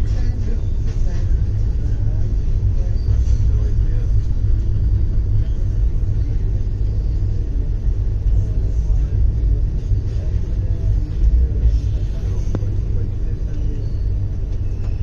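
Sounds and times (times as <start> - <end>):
moving train rumble: 0.0 - 15.0.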